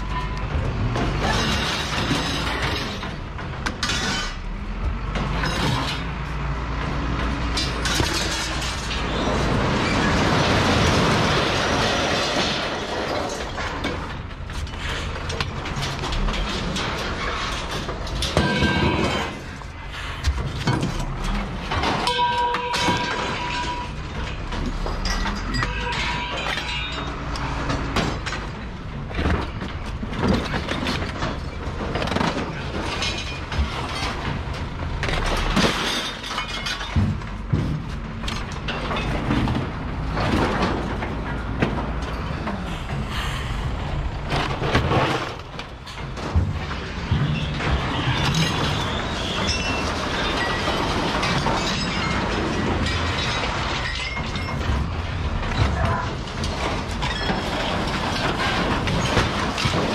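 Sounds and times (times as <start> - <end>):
scrap metal clattering: 0.0 - 59.9.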